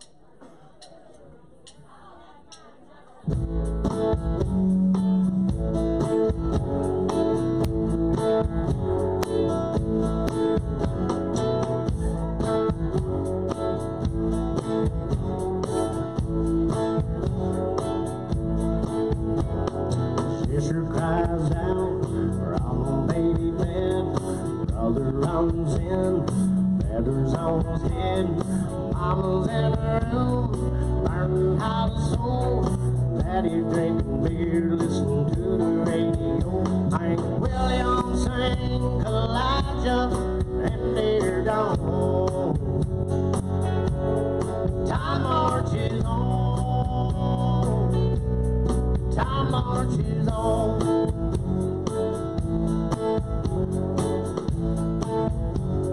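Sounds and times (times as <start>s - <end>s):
country-rock band playing: 3.3s - 55.9s
electric guitar lines bending: 3.4s - 55.9s.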